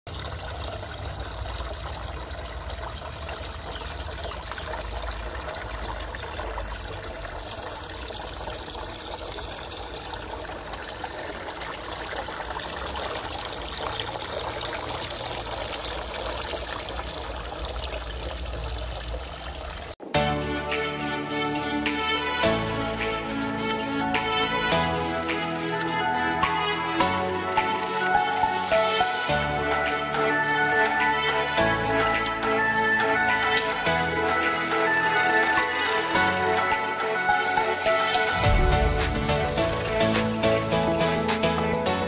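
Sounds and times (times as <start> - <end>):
water trickling into fish tank: 0.1 - 20.0, 21.0 - 41.4.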